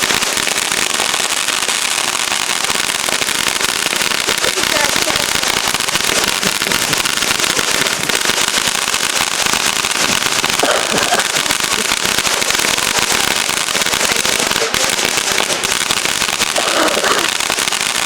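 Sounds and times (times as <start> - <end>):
ground fireworks crackling: 0.0 - 18.0.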